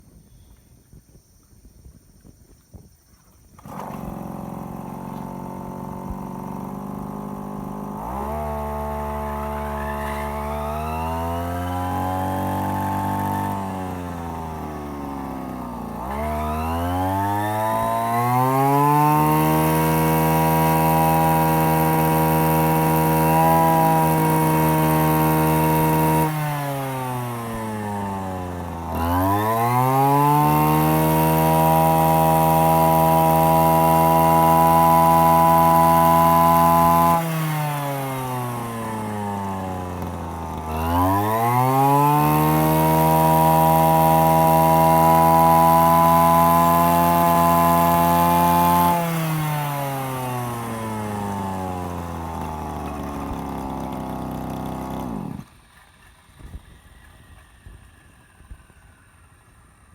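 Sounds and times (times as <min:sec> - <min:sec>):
brush cutter engine revving: 0:03.5 - 0:55.9.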